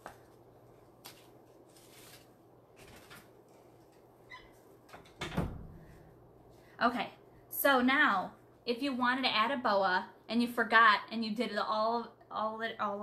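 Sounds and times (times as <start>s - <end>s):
room fan humming: 0.0s - 13.0s.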